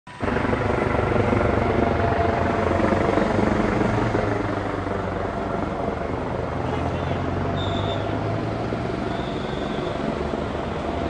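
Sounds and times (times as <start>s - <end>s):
helicopter rotor drone: 0.1s - 11.0s.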